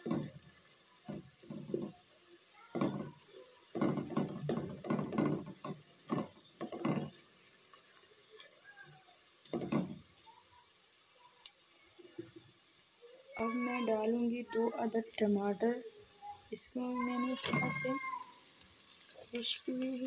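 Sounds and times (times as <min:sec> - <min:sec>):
frying sizzle: 0:00.0 - 0:20.0.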